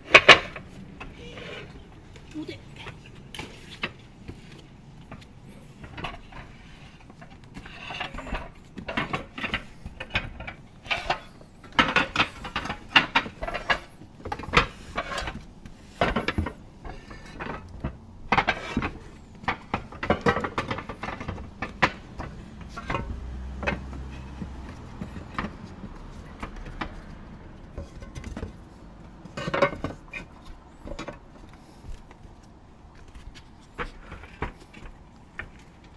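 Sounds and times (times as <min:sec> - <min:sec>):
knocks taps and scrapes: 0:00.1 - 0:35.9.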